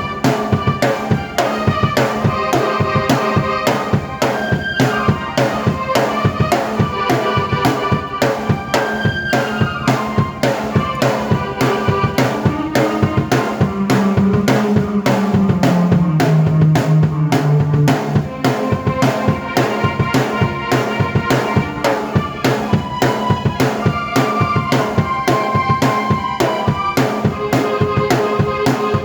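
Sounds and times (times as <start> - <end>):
drum kit beat: 0.0 - 29.0
keyboard chords: 0.0 - 29.0.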